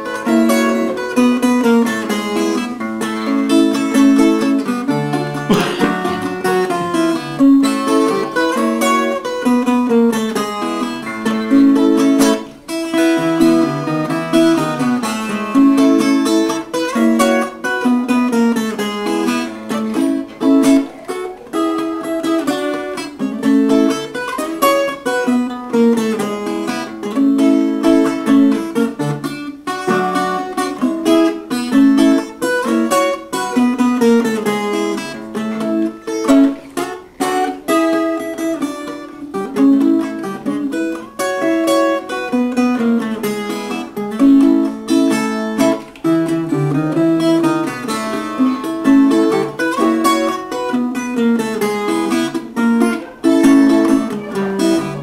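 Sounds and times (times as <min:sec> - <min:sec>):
ten-string guitar strummed and picked: 0:00.0 - 0:55.0.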